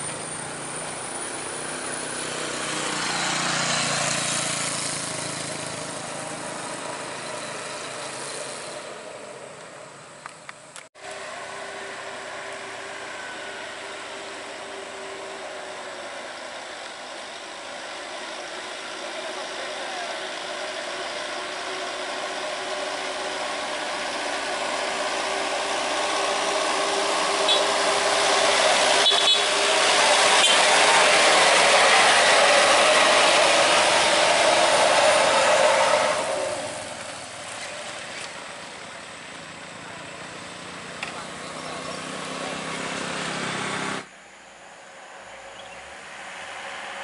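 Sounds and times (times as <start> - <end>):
road noise: 0.0 - 47.0
truck diesel engine passing: 0.0 - 47.0.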